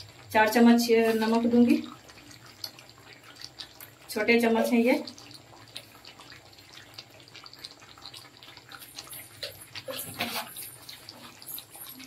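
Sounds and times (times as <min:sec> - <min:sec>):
chicken sizzling in a pan: 0:00.0 - 0:12.0
stirring in a pan: 0:00.0 - 0:12.0.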